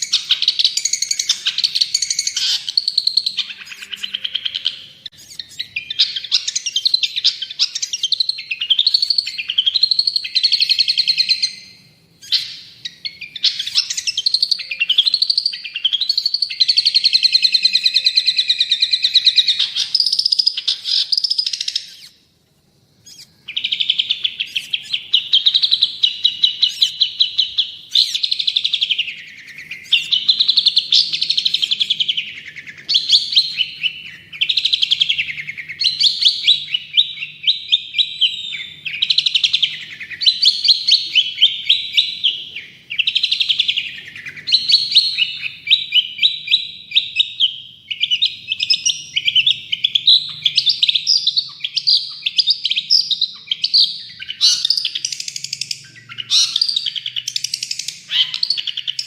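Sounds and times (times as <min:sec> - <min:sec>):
bird singing rapid repeated notes: 0:00.0 - 0:59.0.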